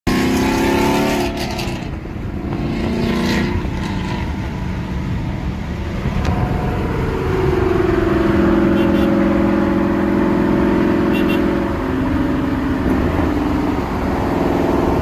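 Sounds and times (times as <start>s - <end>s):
road noise: 0.0s - 15.0s
car engine and exhaust rumble: 0.1s - 15.0s.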